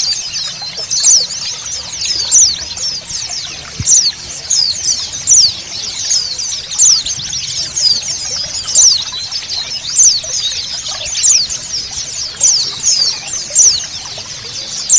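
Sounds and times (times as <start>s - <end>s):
birds chirping: 0.0s - 14.9s
running water: 0.0s - 14.9s.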